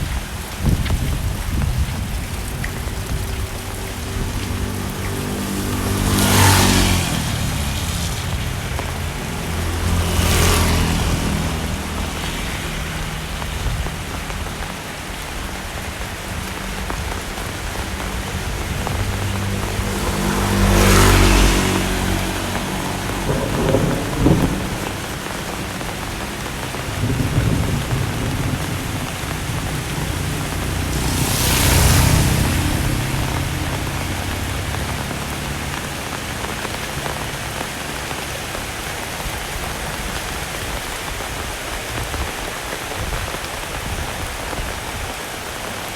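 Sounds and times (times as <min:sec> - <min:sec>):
heavy rain: 0:00.0 - 0:45.9
vehicles passing on wet road: 0:00.0 - 0:45.9.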